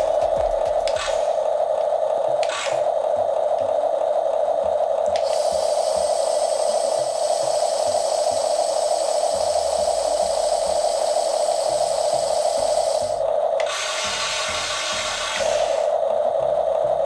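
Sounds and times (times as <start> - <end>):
toy electric motor whine: 0.0 - 1.6, 2.4 - 3.2, 5.1 - 16.7.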